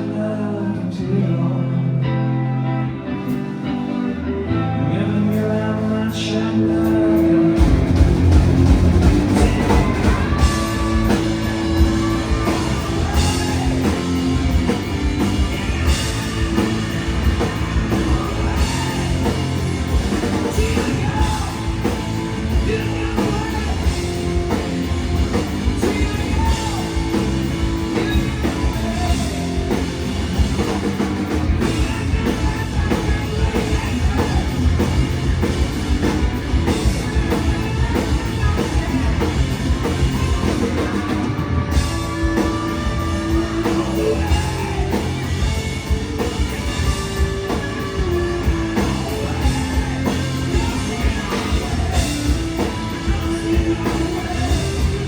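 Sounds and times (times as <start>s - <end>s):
drums: 0.0s - 1.4s, 2.8s - 55.0s
electric guitars: 0.0s - 55.0s
person singing: 0.0s - 55.0s.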